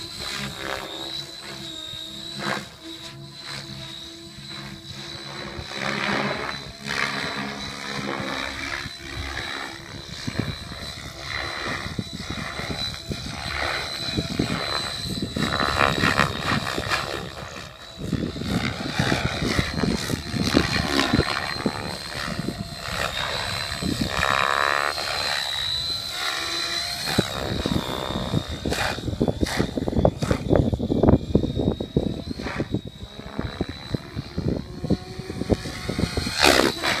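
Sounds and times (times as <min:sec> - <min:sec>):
faint high whine: 0:00.0 - 0:37.0
radio-controlled helicopter flying: 0:00.0 - 0:37.0.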